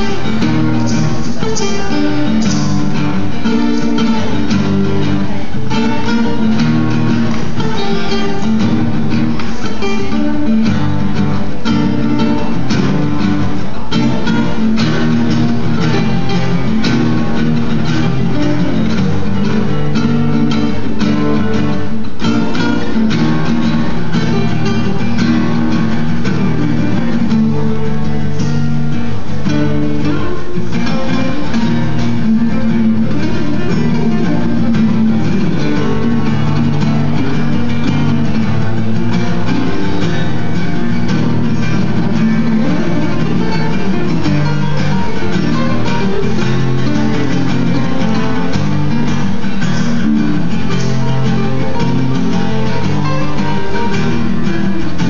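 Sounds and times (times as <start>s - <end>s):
guitar solo: 0.0s - 55.0s.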